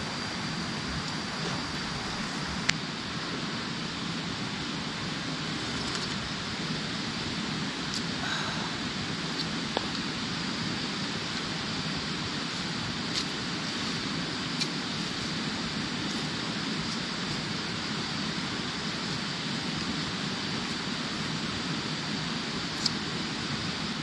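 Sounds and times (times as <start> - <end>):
rushing outdoor background noise: 0.0 - 24.0.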